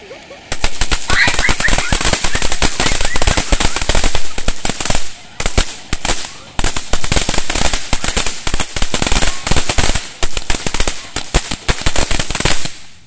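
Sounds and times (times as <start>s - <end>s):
firework fountain crackling: 0.0s - 13.0s.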